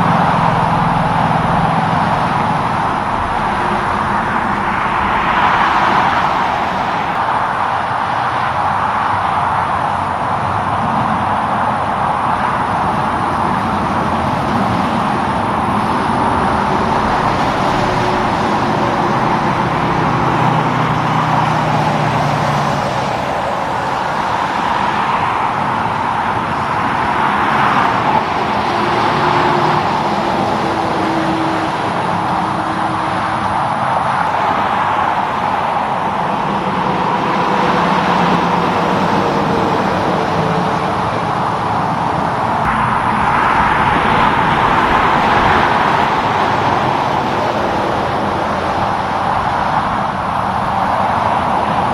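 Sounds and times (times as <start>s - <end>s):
heavy truck engines droning: 0.0s - 51.9s
vehicles passing on busy road: 0.0s - 51.9s.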